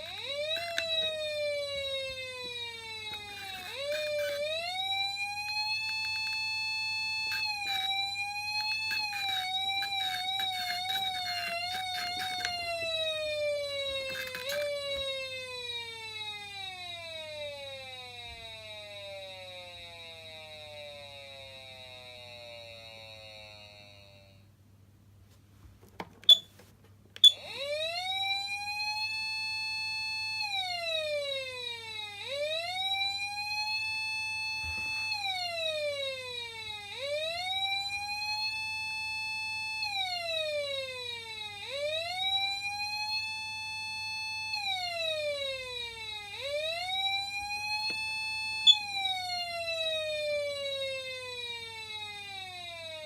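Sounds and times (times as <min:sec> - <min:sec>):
electronic siren wail: 0:00.0 - 0:24.5, 0:27.2 - 0:53.0.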